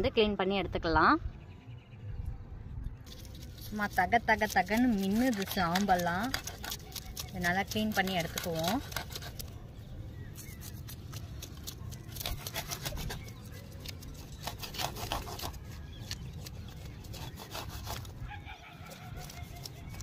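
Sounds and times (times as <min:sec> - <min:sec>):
knife scraping fish scales: 0:03.1 - 0:09.6, 0:10.3 - 0:20.0.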